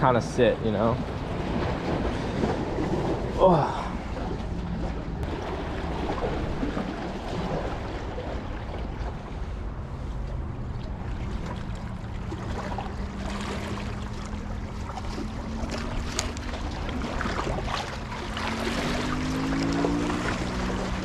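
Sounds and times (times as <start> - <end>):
small waves lapping against boulders: 0.0 - 21.0
wind rumbling on microphone: 0.0 - 21.0
water crackling among rocks: 0.8 - 21.0.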